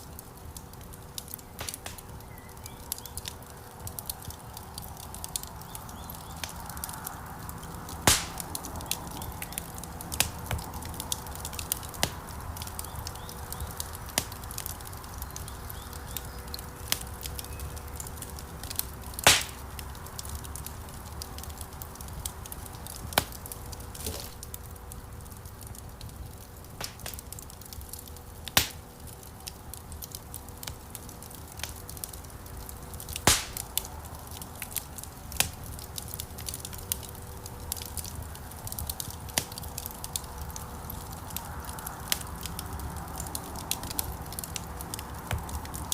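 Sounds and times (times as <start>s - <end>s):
fire popping: 0.0s - 45.9s
wood fire crackling: 0.0s - 45.9s.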